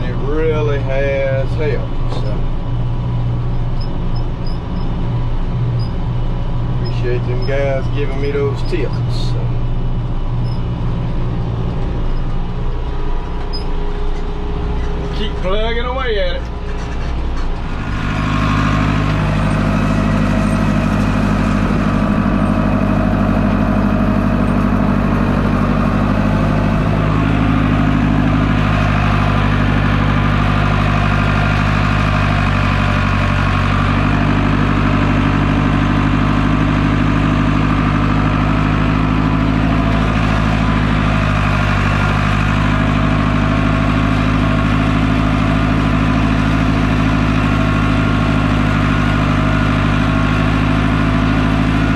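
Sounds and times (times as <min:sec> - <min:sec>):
tractor engine running under load: 0:00.0 - 0:51.9.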